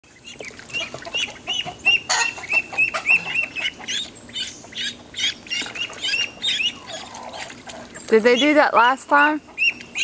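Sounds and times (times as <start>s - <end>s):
ducklings peeping shrilly: 0.1s - 10.0s.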